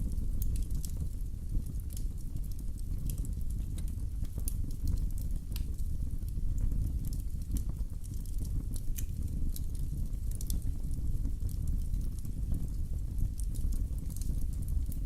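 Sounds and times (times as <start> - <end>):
fire popping and snapping: 0.0 - 15.0
low rumble of flames: 0.0 - 15.0.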